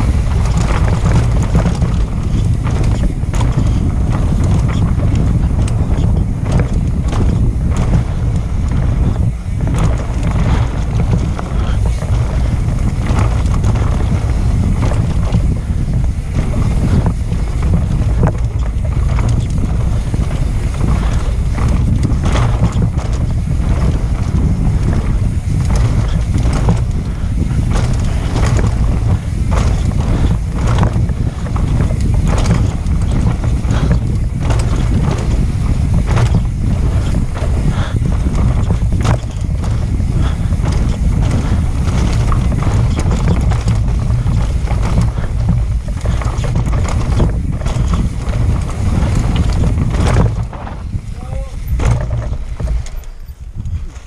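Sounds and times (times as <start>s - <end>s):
bike rattling on rough ground: 0.0s - 54.0s
wind buffeting microphone: 0.0s - 54.0s.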